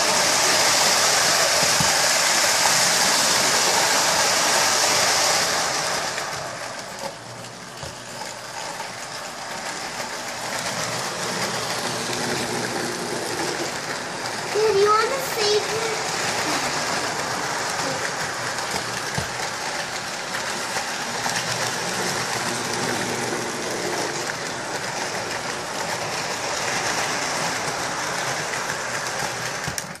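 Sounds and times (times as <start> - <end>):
toy train whirring and rattling: 0.0 - 30.0.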